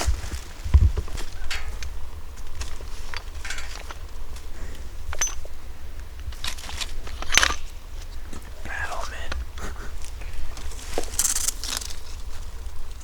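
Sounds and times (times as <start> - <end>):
gear clicking and clinking: 0.0 - 9.4, 10.2 - 13.0
steady low rumble: 0.0 - 13.0.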